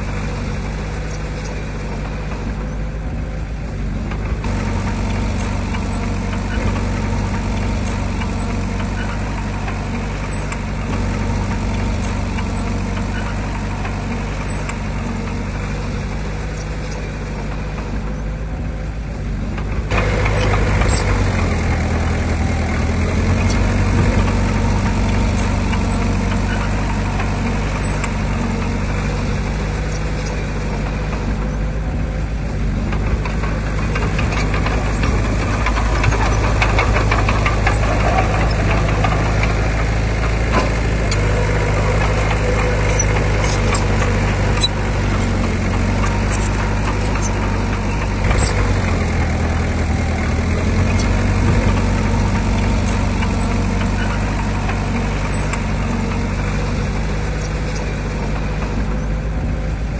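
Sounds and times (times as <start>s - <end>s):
heavy diesel machinery engine: 0.0s - 59.9s.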